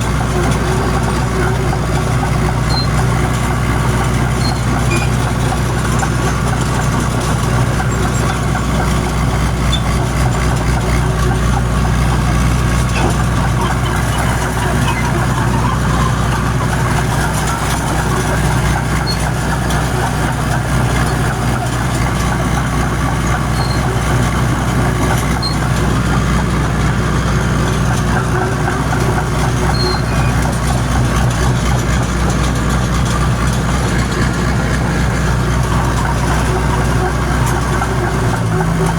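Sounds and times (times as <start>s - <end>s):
diesel engine rumbling under load: 0.0s - 38.9s.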